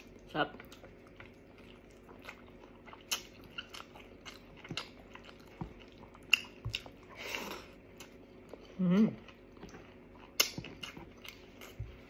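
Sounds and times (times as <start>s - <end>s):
chewing meat and rice: 0.0s - 12.0s.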